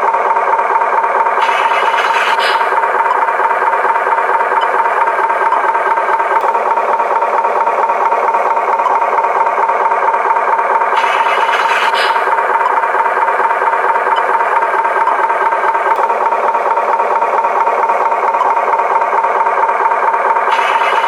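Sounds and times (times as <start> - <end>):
toy motor whining and rattling: 0.2 - 6.4, 7.8 - 21.0.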